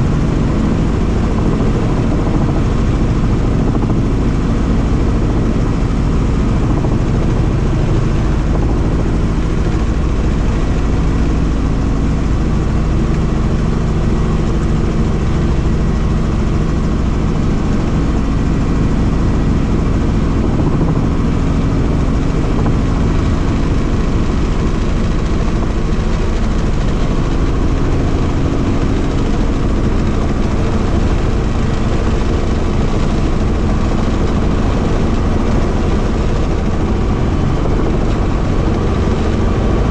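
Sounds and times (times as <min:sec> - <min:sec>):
helicopter turbine and rotor noise: 0:00.0 - 0:39.9.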